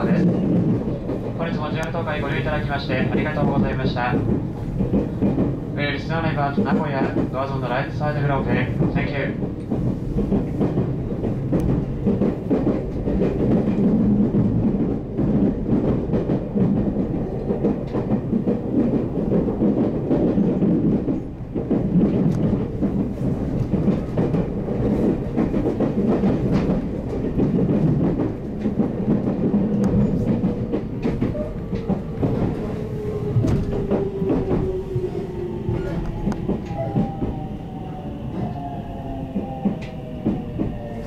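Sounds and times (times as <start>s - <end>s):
rail-joint clicks: 0.0s - 38.7s, 39.3s - 41.0s
train wheels rumbling: 0.0s - 41.0s.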